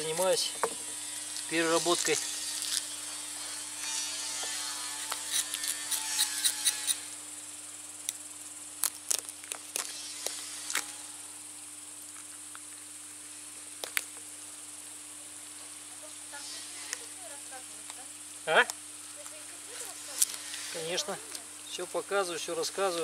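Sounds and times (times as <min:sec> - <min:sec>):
insect chirring: 0:00.0 - 0:23.0.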